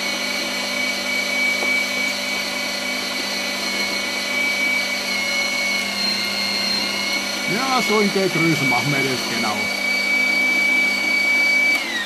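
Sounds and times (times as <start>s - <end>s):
electric meat grinder running: 0.0s - 12.0s.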